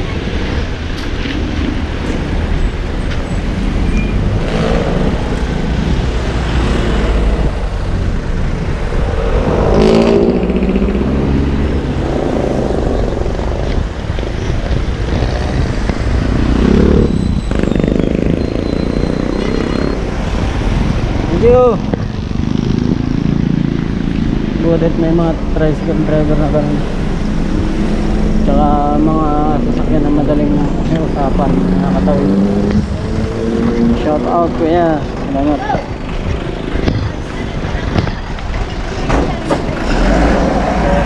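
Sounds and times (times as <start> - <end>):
traffic on wet road: 0.0 - 41.0
vehicle engine passing: 1.7 - 41.0.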